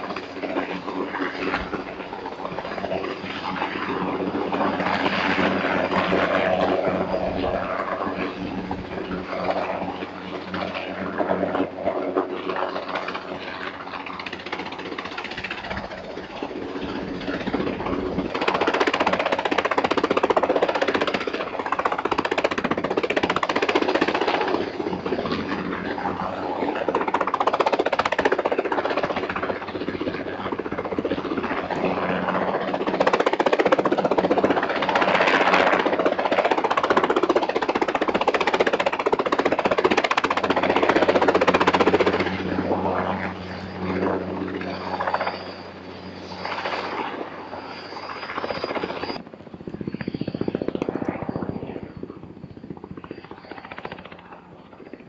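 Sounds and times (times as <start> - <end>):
helicopter rotor chop and engine: 0.0 - 55.0.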